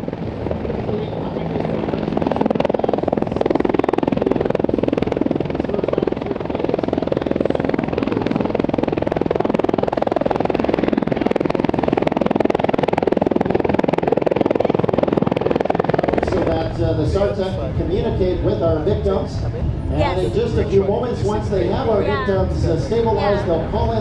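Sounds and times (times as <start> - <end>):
helicopter rotor chop and turbine: 0.0 - 24.0.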